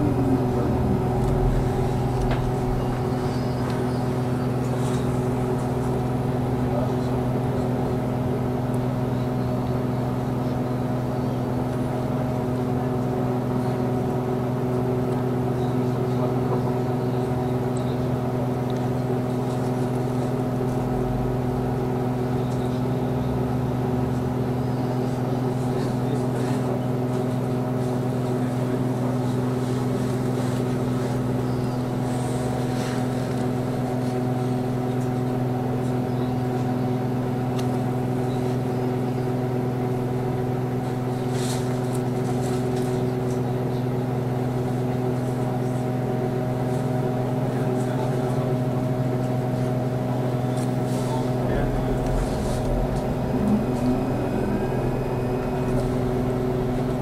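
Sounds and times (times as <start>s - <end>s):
trolleybus electric hum: 0.0s - 57.0s.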